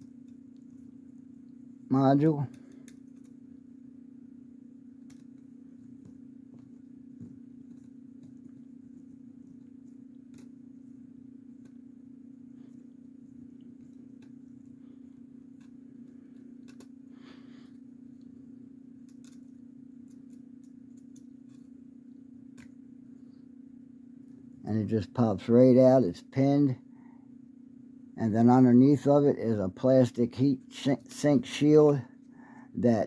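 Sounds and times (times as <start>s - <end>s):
low hum: 0.0s - 30.7s.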